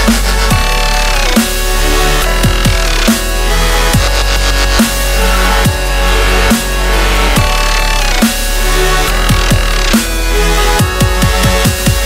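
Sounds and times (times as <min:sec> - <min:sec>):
deep bass line: 0:00.0 - 0:12.0
electronic dance music: 0:00.0 - 0:12.0
heavy kick drums: 0:00.0 - 0:12.0.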